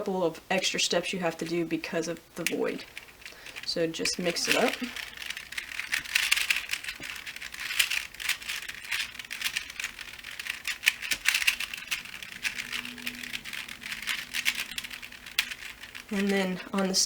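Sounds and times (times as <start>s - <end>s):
puzzle cube clicking and rattling: 0.6s - 17.0s.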